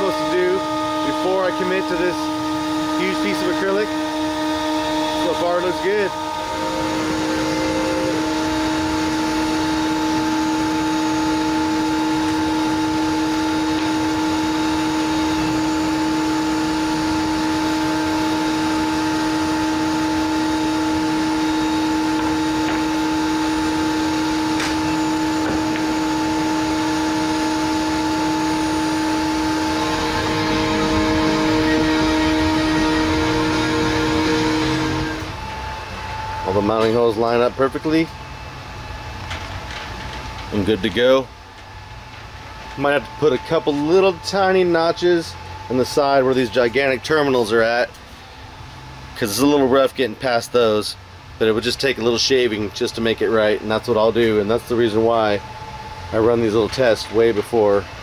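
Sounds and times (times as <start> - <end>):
router machinery droning: 0.0 - 50.8, 51.7 - 58.0.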